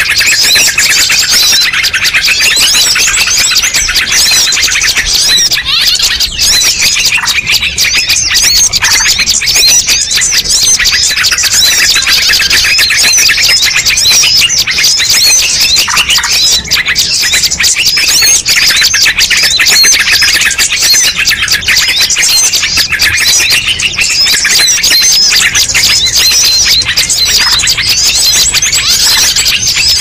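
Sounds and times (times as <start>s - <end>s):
small songbirds chirping: 0.0s - 30.0s.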